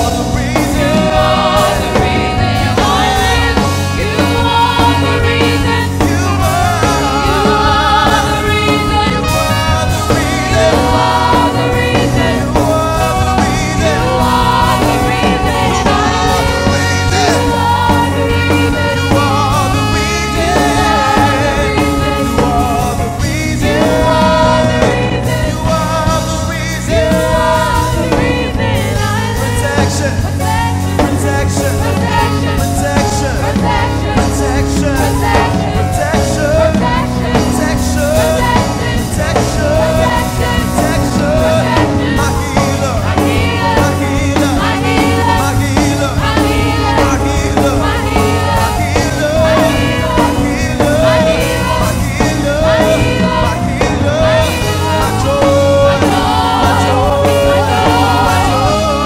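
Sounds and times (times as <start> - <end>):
band accompaniment: 0.0 - 59.0
voices singing: 0.0 - 59.0.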